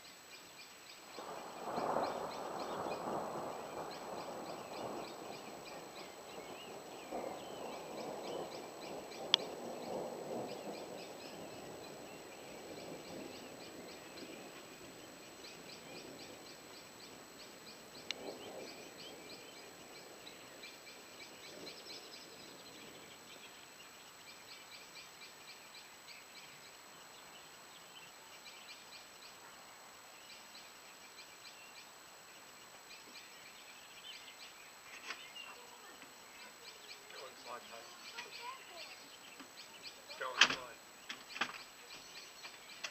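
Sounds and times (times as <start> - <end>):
insects chirping: 0.0 - 42.9
distant thunder rumble: 1.1 - 42.9.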